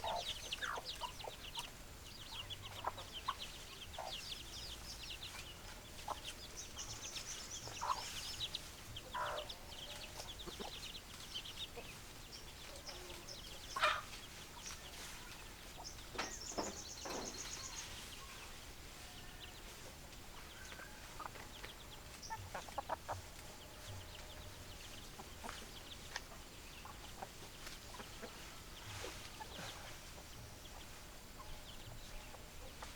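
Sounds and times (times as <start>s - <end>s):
hens clucking: 0.0s - 32.9s.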